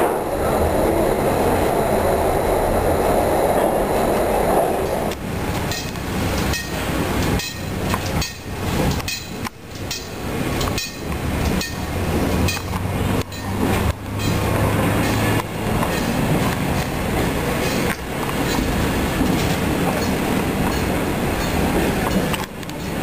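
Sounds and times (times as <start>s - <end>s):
train rumbling in a tunnel: 0.0s - 23.0s
train wheels rattling and clacking: 3.1s - 23.0s.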